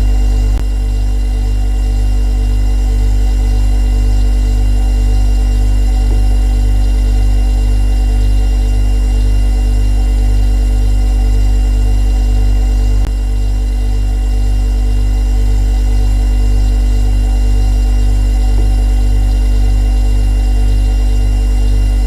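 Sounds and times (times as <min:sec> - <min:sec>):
refrigerator hum: 0:00.0 - 0:22.0.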